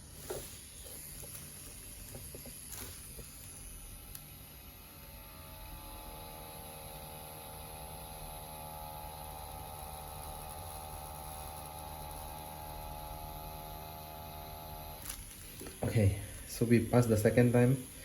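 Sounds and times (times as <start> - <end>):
tattoo pen motor buzz: 0.0 - 18.0.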